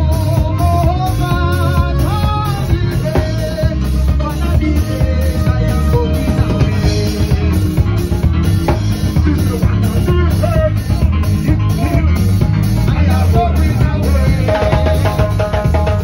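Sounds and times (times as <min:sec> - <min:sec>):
man's voice on microphone: 0:00.0 - 0:15.4
live band music: 0:00.0 - 0:16.0.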